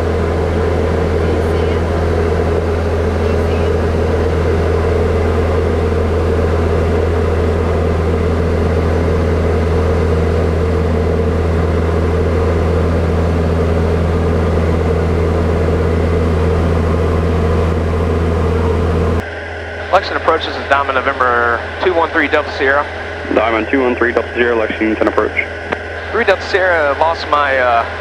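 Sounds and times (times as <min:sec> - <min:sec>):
airplane engine droning in cabin: 0:00.0 - 0:28.0.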